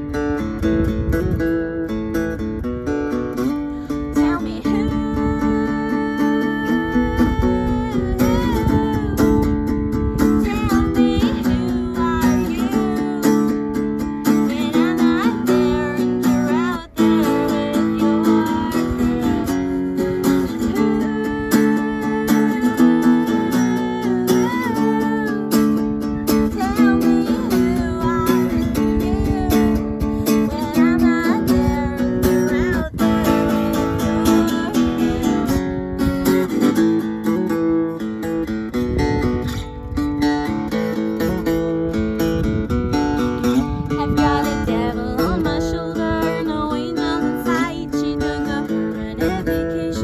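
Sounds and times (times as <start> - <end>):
acoustic guitars strumming: 0.0 - 50.0.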